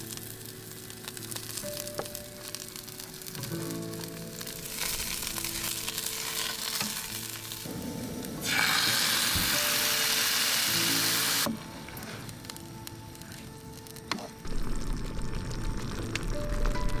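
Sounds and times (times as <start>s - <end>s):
vegetables sizzling in a frying pan: 0.0s - 16.7s.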